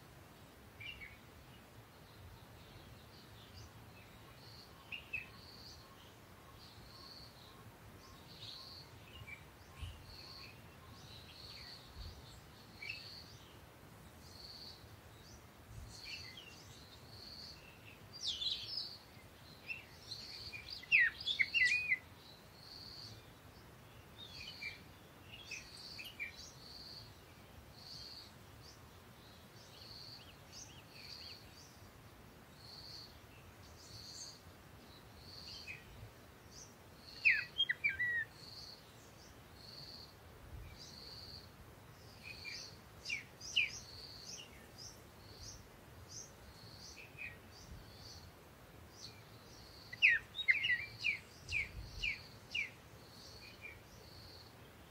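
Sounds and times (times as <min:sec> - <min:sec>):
birds chirping: 0:00.4 - 0:54.9.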